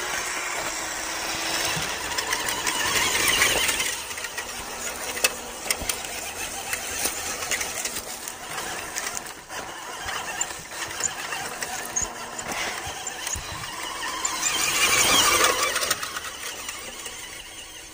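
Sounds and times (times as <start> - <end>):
toy truck motor whining: 0.0 - 17.9
tyres crackling on debris: 0.6 - 17.4.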